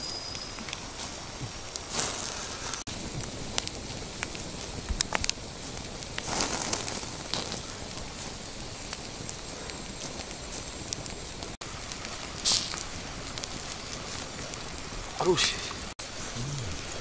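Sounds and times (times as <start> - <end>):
steady hiss: 0.0 - 17.0
wood fire crackling and popping: 0.0 - 17.0.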